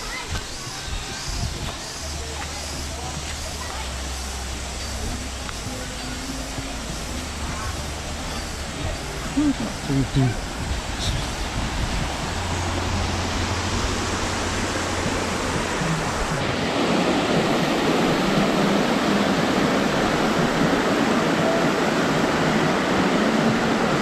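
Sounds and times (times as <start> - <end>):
waterfall rushing: 0.0 - 24.0
low hum: 1.4 - 24.0.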